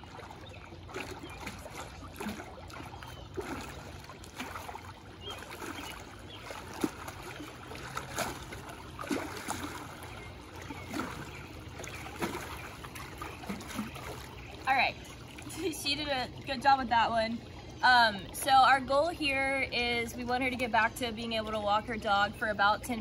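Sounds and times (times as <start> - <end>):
person wading through water: 0.0 - 18.6
pool water sloshing: 0.0 - 23.0.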